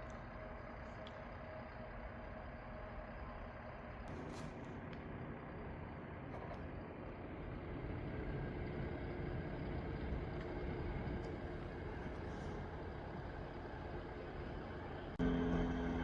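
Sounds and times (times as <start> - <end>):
diesel engines of farm machinery: 0.0 - 16.0.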